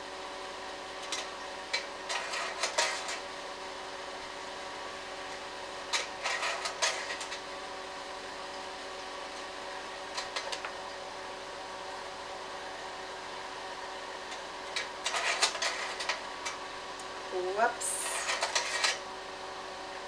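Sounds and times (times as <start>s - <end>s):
slide projector fan humming: 0.0s - 20.0s.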